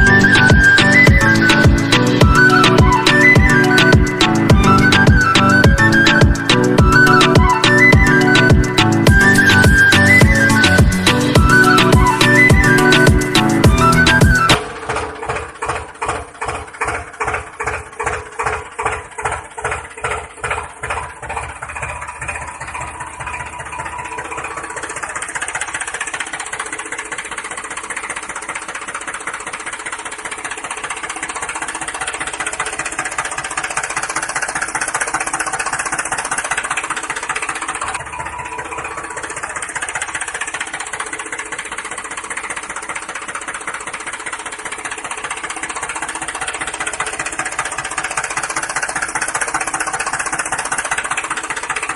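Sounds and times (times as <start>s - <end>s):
engine chugging: 0.0s - 51.9s.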